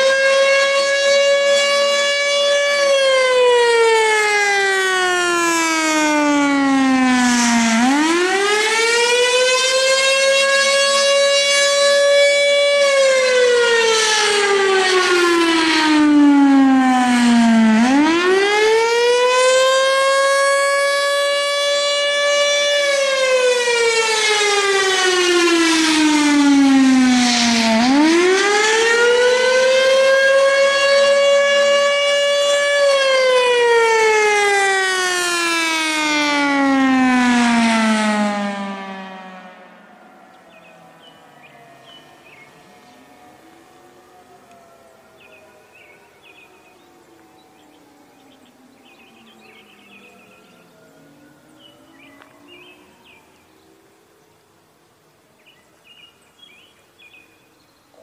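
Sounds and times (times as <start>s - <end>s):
siren wailing: 0.0s - 55.9s.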